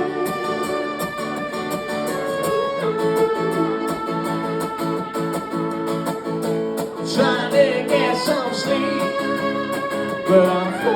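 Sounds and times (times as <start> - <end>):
strummed guitar: 0.0 - 10.9.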